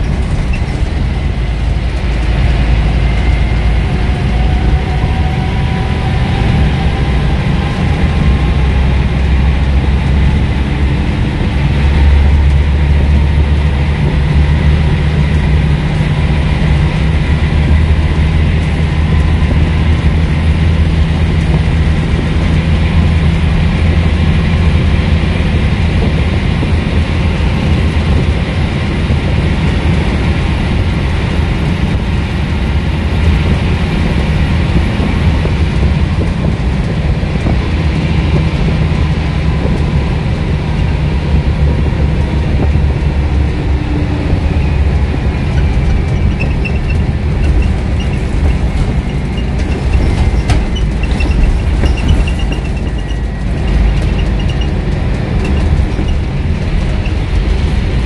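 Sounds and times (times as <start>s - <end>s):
diesel bus engine rumbling: 0.0s - 58.0s
road and body noise: 0.0s - 58.0s.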